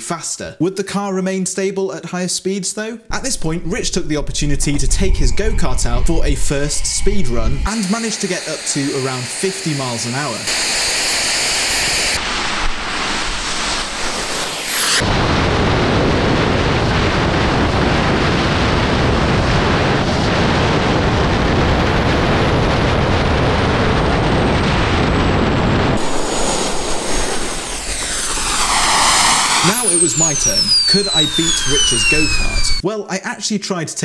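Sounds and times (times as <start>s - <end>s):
jet turbine whining and roaring: 3.1s - 32.8s.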